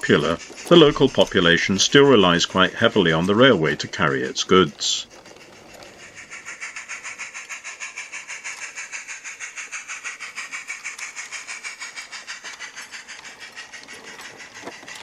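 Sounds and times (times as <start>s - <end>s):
model train hissy pulses: 0.0s - 15.0s.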